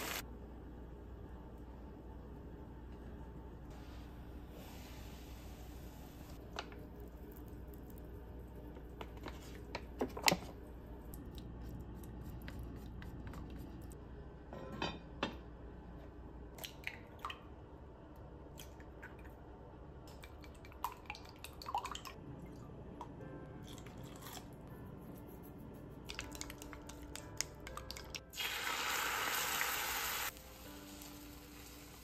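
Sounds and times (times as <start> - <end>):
faint steady hum: 0.0 - 26.3.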